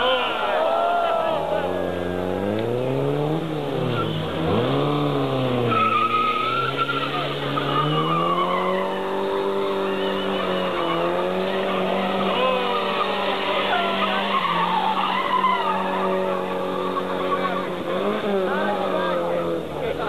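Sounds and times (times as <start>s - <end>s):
car engine revving: 1.3s - 20.0s
tyres squealing: 3.6s - 20.0s.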